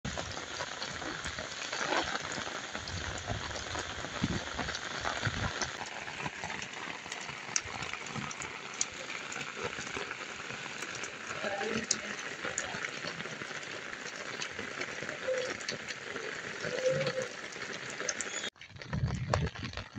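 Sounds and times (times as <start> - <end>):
heavy rain on wet pavement: 0.1 - 19.9.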